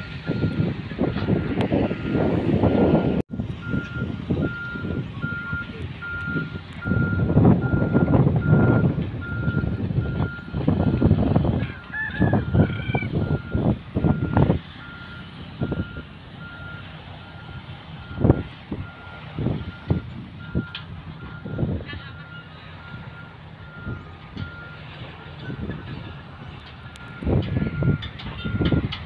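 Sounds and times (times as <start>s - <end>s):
reversing alarm beeping: 0.0s - 25.9s, 26.7s - 28.9s.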